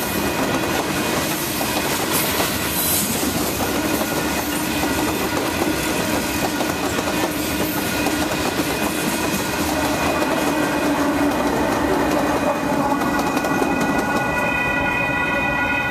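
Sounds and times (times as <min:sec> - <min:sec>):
train wheels clattering over rails: 0:00.0 - 0:14.4
crossing warning bell ringing: 0:00.0 - 0:15.9.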